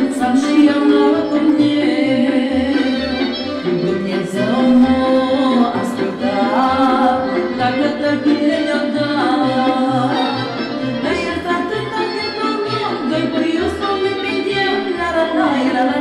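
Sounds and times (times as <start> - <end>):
sliding melody: 0.0 - 16.0.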